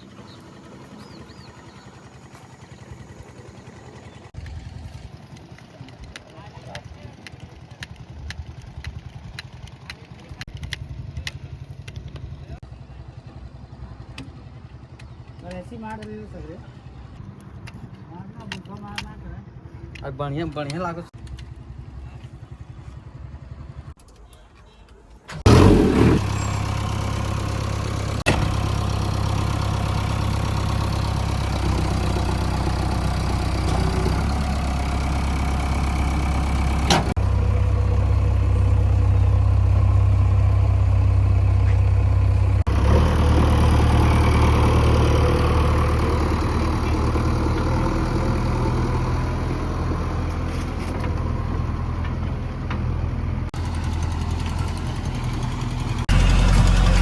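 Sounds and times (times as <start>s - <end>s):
diesel engine running steadily: 0.0s - 17.8s, 25.3s - 57.0s.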